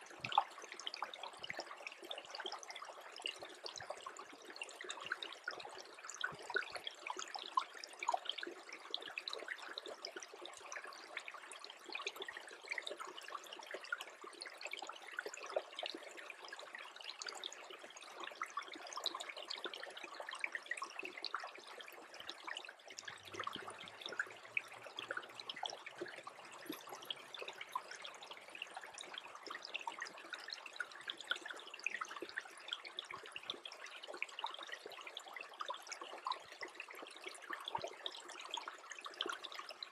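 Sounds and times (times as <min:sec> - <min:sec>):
creek trickling: 0:00.0 - 0:39.9
tiny drips and bubbling pops: 0:00.0 - 0:39.9.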